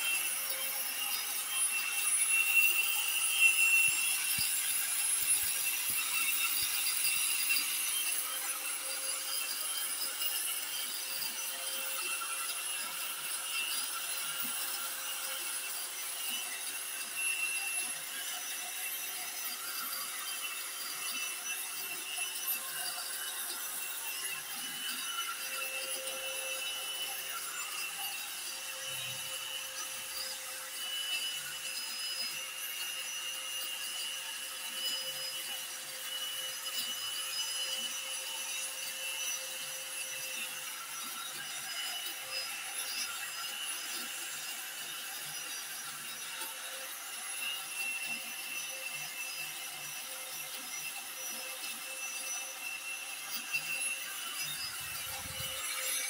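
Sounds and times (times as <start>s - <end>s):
cutter carving wood: 0.0s - 56.0s
rotary cutter whining: 0.0s - 56.0s.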